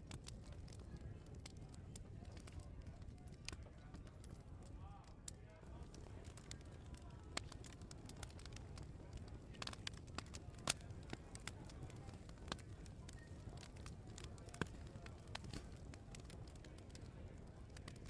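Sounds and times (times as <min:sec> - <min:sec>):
faint murmur of chatter: 0:00.0 - 0:18.0
wood fire crackling and popping: 0:00.0 - 0:18.0.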